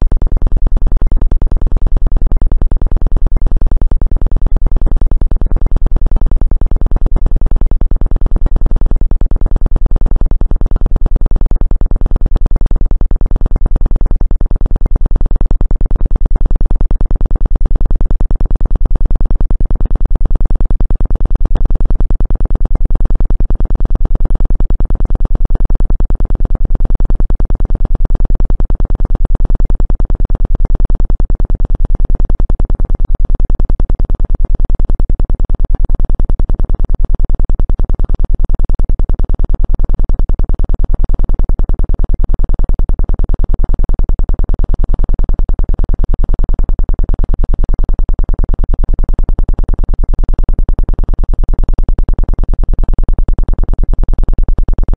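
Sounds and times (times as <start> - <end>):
low buzzing synthesized tone: 0.0 - 24.2, 24.8 - 54.9.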